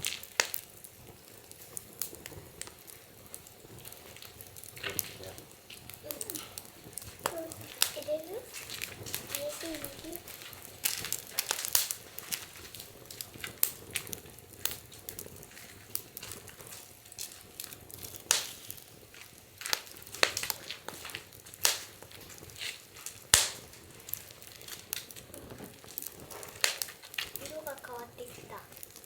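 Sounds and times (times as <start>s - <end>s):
sharp snaps and pops: 0.0s - 29.0s
wood fire crackling: 0.0s - 29.0s.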